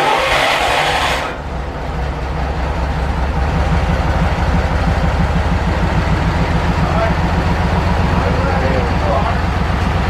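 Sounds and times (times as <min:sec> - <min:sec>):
miniature train engine idling: 0:00.0 - 0:10.0.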